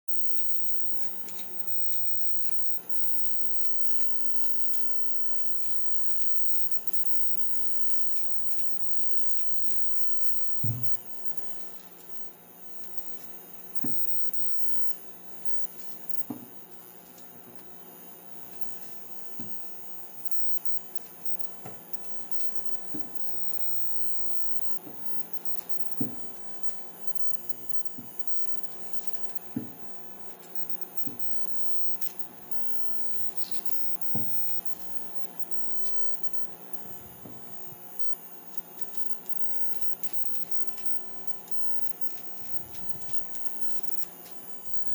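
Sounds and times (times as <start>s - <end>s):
steady hum: 0.1s - 44.9s.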